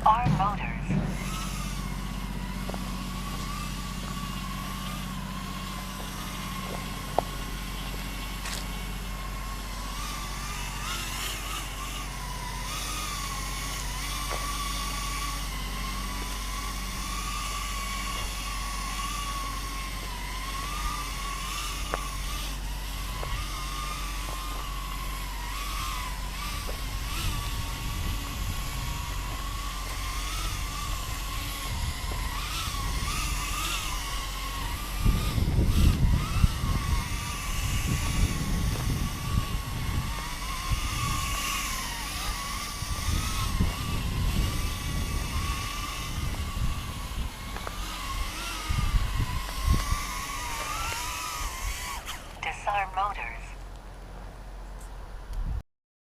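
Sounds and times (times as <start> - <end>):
steady low rumble: 0.0 - 53.7
quadcopter motors whining: 0.0 - 55.5.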